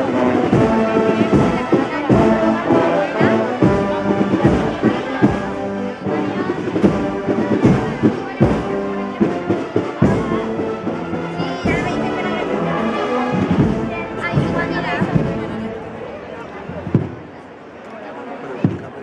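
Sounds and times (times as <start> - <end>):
drum strokes: 0.0 - 15.9, 16.6 - 17.4
brass band playing a march: 0.0 - 17.2.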